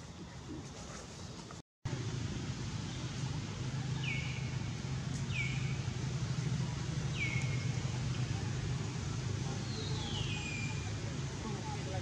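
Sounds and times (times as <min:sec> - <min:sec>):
steady low rumble: 0:01.9 - 0:12.0.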